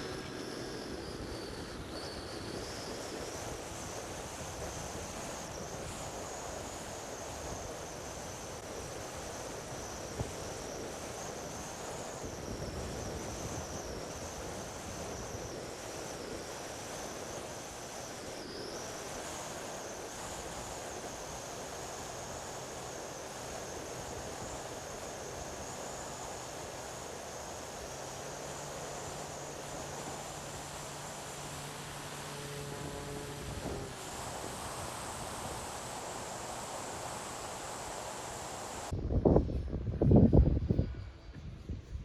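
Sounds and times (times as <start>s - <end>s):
electric motor whine: 0.0s - 39.4s
wind rushing over microphone: 0.0s - 42.0s.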